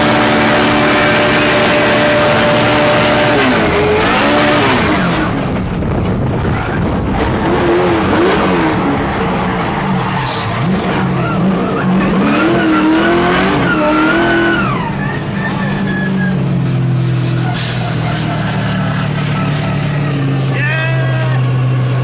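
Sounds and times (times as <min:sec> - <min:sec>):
car engine revving: 0:00.0 - 0:22.0
tyres skidding: 0:00.0 - 0:22.0.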